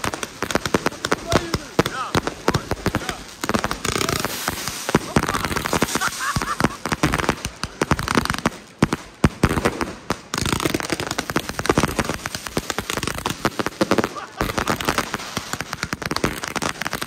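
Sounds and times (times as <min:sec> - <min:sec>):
fireworks shots: 0:00.0 - 0:17.0.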